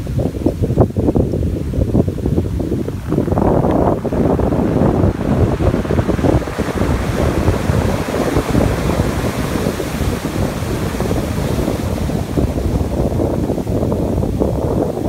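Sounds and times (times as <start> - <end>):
surf washing over pebble beach: 0.0 - 15.0
wind buffeting microphone: 0.0 - 15.0.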